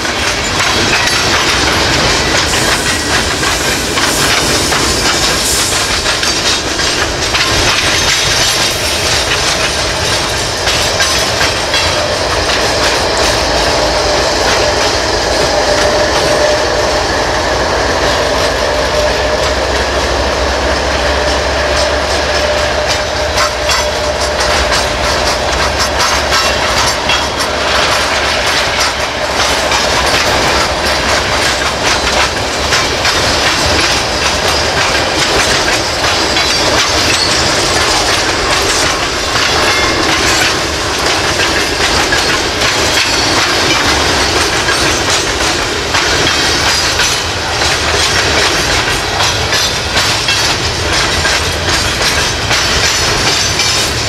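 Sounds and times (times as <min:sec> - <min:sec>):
diesel locomotive engine hum: 0:00.0 - 0:54.0
train cars rumbling over rail joints: 0:00.0 - 0:54.0.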